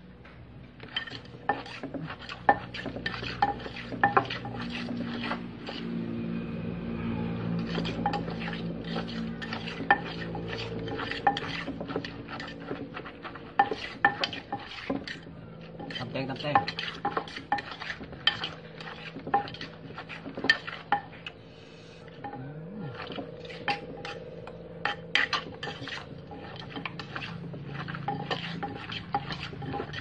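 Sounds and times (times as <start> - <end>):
metal spoon clinking and scraping: 0.8 - 6.0, 7.2 - 21.4, 22.0 - 30.0.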